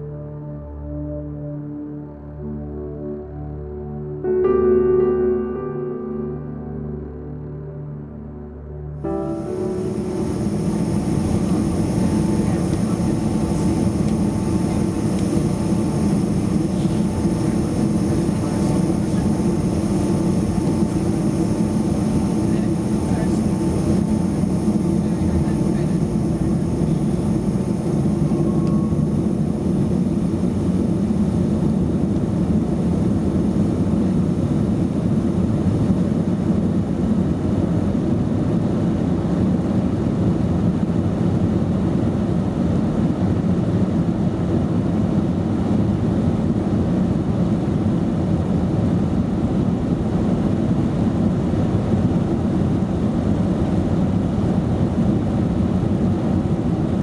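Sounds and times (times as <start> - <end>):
airplane cabin engine rumble: 9.0 - 57.0.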